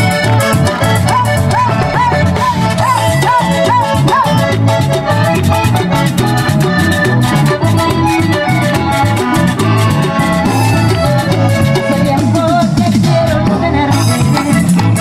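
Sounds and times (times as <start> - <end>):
live cumbia band playing: 0.0 - 15.0.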